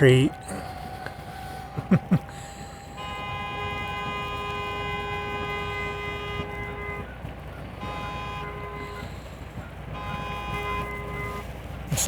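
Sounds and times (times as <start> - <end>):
car horn honking: 0.0 - 12.0.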